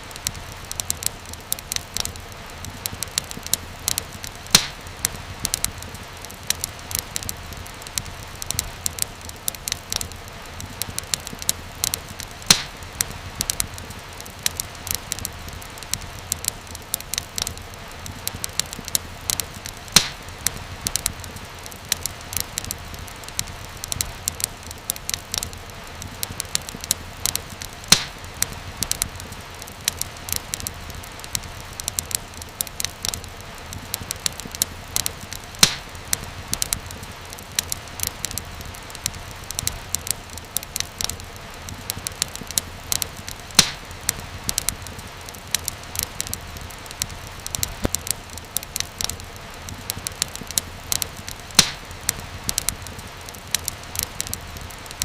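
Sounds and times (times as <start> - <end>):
fire hiss: 0.0 - 55.0
fire pops and snaps: 0.0 - 55.0
wood fire crackling: 0.0 - 55.0.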